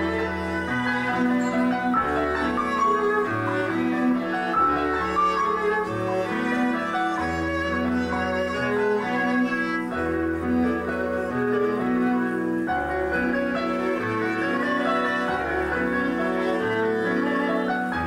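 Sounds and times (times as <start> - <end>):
bowed strings playing chords: 0.0 - 18.0.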